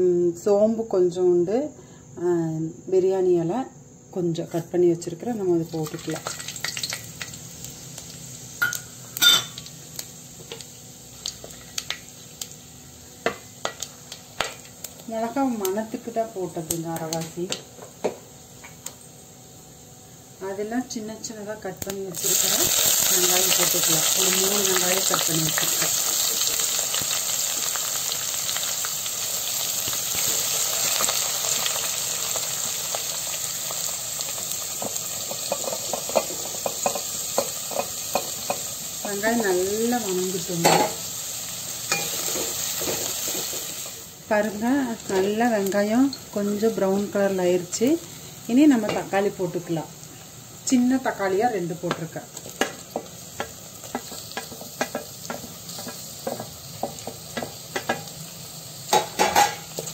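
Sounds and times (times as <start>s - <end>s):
spices sizzling in hot oil: 5.0s - 59.9s.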